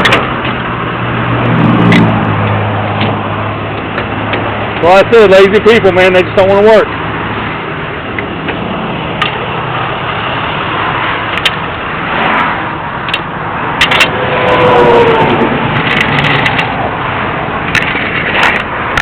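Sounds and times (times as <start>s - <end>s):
highway traffic roar: 0.0s - 19.0s
vehicle passing close: 0.0s - 19.0s.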